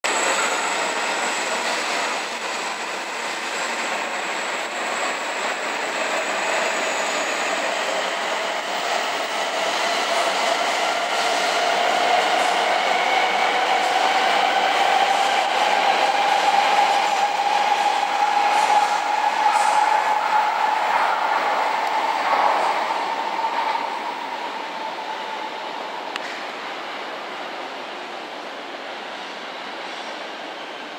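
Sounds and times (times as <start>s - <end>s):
rising train whine: 0.0s - 30.9s
train rolling rush: 0.0s - 30.9s.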